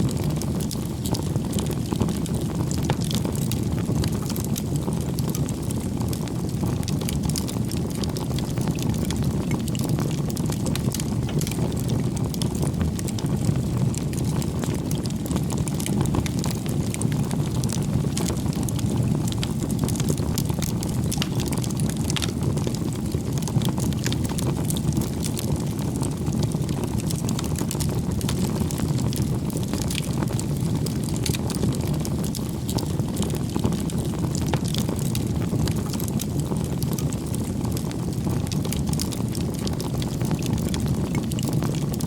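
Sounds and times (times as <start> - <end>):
burning wood crackling: 0.0 - 42.0
low rumble of flames: 0.0 - 42.0.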